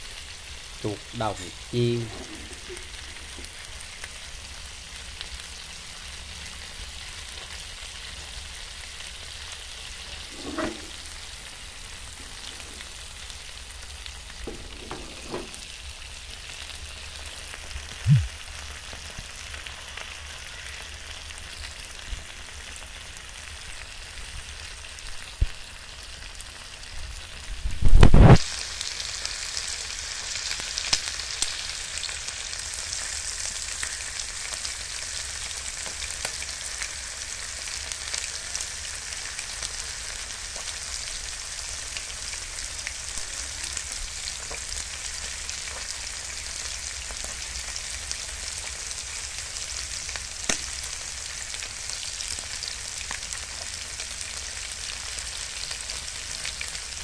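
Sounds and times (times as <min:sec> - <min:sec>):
meat frying in oil: 0:00.0 - 0:57.0.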